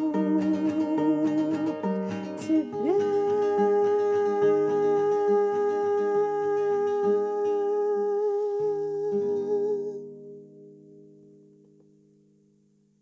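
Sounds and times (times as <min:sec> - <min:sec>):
plucked-string chords: 0:00.0 - 0:12.9.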